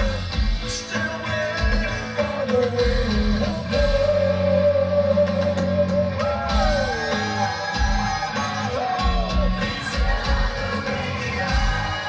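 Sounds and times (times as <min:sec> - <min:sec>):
live rock band playing: 0:00.0 - 0:12.0
man singing lead vocals: 0:00.0 - 0:12.0.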